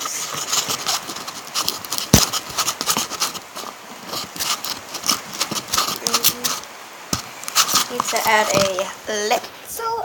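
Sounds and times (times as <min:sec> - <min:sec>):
utensil stirring sticky mixture: 0:00.0 - 0:09.8.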